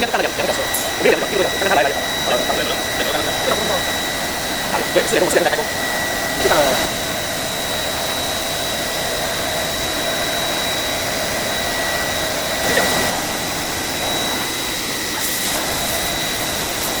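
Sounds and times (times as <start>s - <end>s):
constant high whine: 0.0s - 17.0s
milling machine cutting steel: 0.0s - 17.0s.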